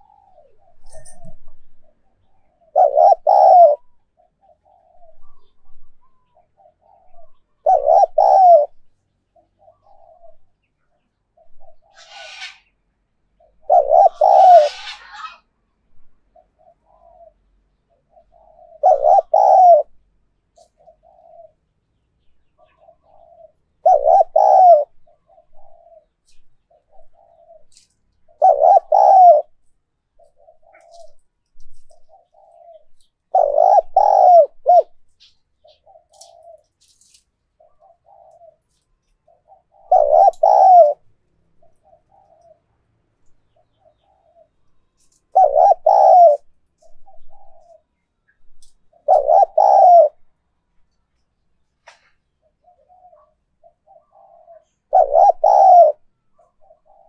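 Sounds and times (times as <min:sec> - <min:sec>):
dove cooing: 0:00.0 - 0:12.6, 0:13.4 - 0:20.0, 0:20.6 - 0:21.6, 0:22.5 - 0:42.7, 0:43.5 - 0:50.3, 0:52.0 - 0:57.0.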